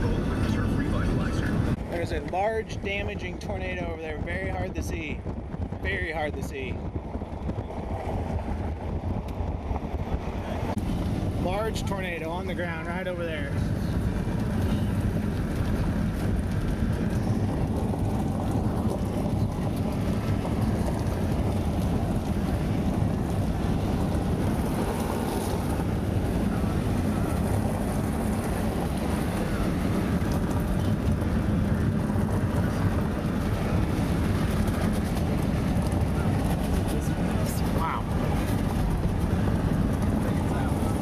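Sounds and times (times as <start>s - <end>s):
vehicle road and engine rumble: 0.0s - 41.0s.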